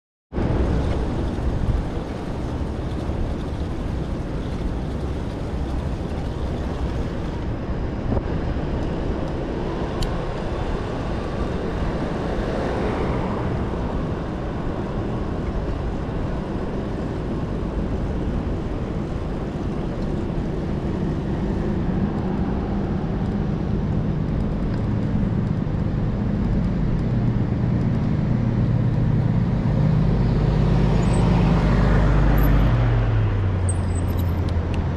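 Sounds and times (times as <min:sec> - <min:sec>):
street traffic rumble: 0:00.3 - 0:34.9
low hum: 0:00.4 - 0:34.9.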